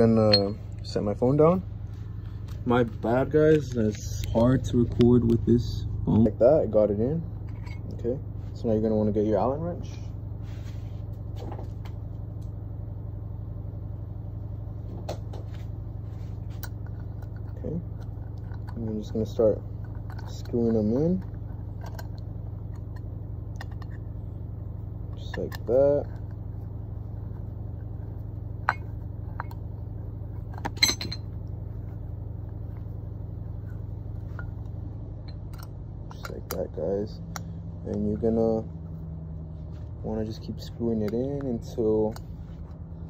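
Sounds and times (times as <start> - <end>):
machine humming: 0.0 - 43.0.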